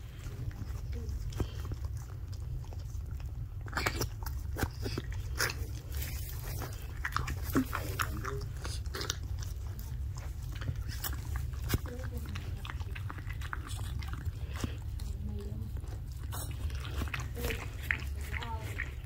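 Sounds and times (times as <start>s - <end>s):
dog licking and chewing: 0.0s - 19.0s
steady low hum: 0.0s - 19.0s.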